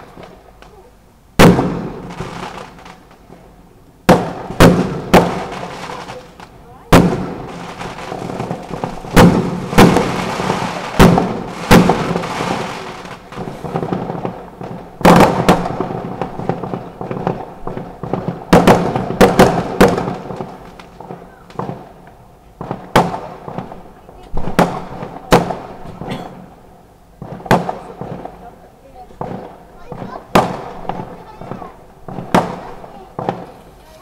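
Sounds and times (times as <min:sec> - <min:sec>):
fireworks banging: 0:00.0 - 0:34.0
fireworks crackling: 0:00.0 - 0:34.0.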